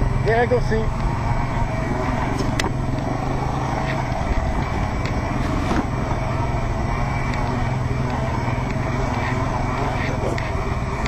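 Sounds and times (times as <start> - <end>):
electric bike running: 0.0 - 11.0.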